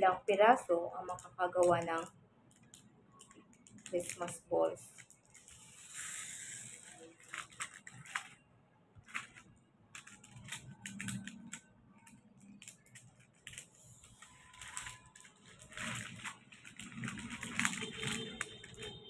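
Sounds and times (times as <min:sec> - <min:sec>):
foil paper crinkling: 0:01.1 - 0:08.4, 0:09.0 - 0:19.0.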